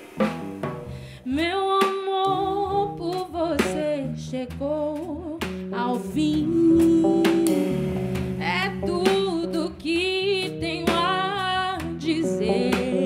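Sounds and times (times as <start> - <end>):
electric bass: 0.0 - 1.3, 2.3 - 13.0
drum kit hits: 0.0 - 4.0, 5.4 - 13.0
woman singing with vibrato: 1.2 - 13.0.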